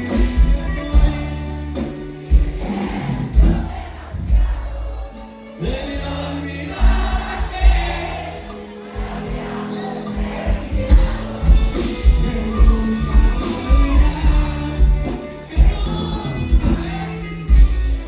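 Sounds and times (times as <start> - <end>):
live band music: 0.0 - 18.0
voices singing: 0.0 - 18.0.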